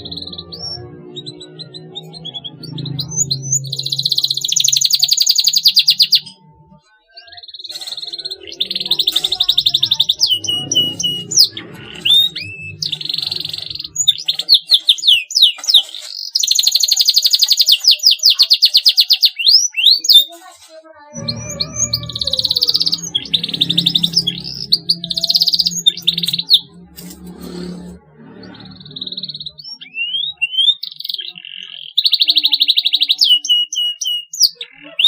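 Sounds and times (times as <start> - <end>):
canary singing: 0.0 - 35.0.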